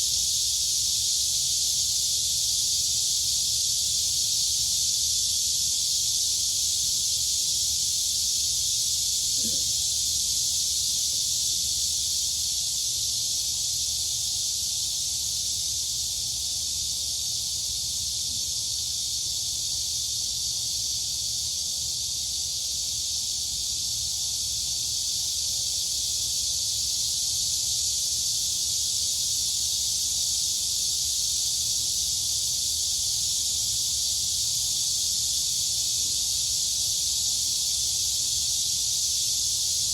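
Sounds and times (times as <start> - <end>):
crickets and cicadas chirping: 0.0 - 39.9.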